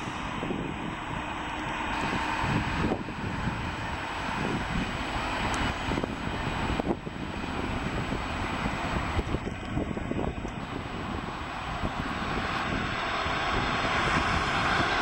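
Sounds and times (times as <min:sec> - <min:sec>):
train wheels and motor rumbling: 0:00.0 - 0:15.0.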